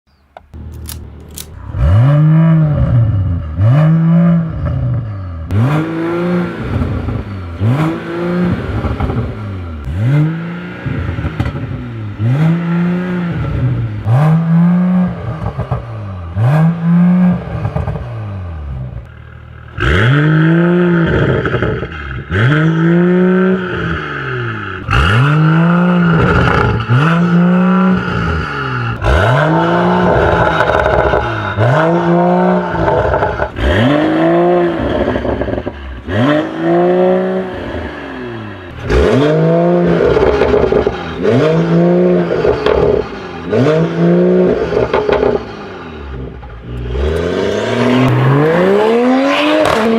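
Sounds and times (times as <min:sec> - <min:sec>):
car engine revving: 0:00.5 - 0:49.9.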